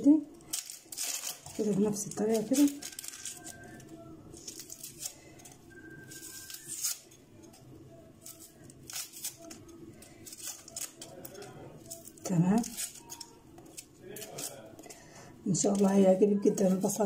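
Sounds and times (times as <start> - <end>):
onion skin crackling and tearing: 0.4 - 14.8.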